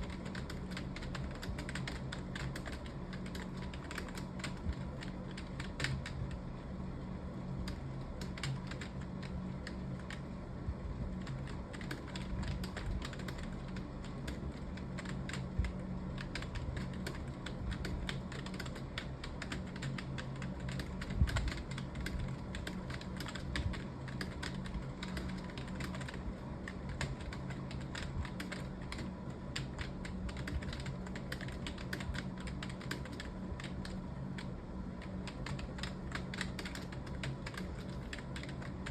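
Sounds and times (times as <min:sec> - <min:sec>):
fast keyboard typing: 0:00.0 - 0:06.4, 0:07.6 - 0:10.3, 0:11.0 - 0:38.9
steady low hum: 0:00.0 - 0:38.9.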